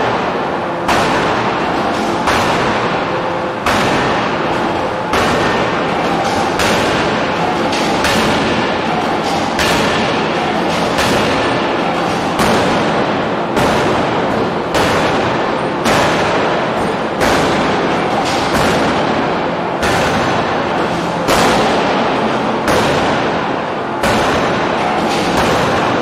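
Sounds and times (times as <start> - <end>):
machine running noise: 0.0 - 26.0.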